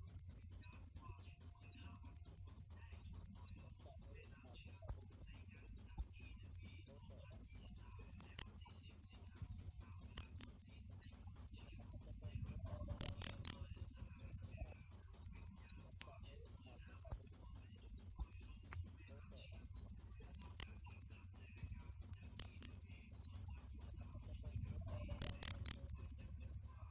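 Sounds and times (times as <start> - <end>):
insect chirping: 0.0 - 26.9.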